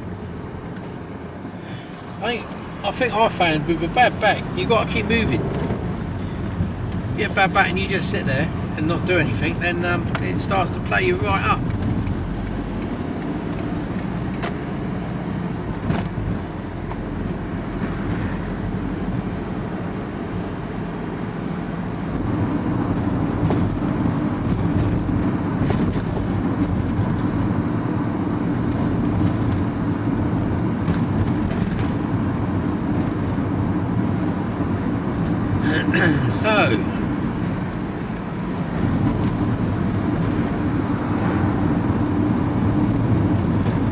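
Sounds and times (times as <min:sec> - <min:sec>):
road noise: 0:00.0 - 0:43.9
van engine: 0:00.0 - 0:43.9.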